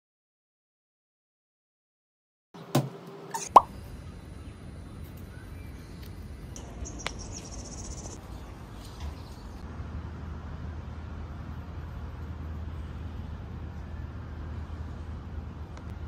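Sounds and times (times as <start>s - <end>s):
distant traffic hum: 2.6s - 16.0s.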